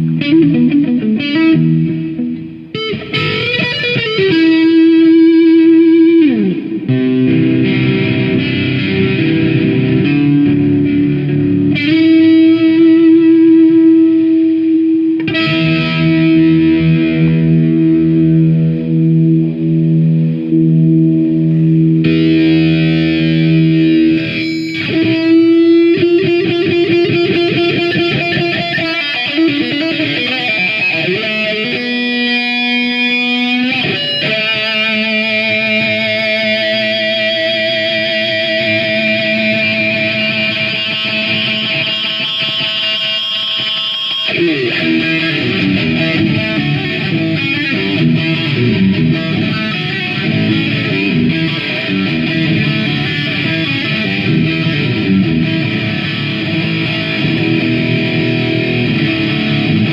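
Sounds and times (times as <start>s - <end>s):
electric guitar chords ringing: 0.0s - 59.9s.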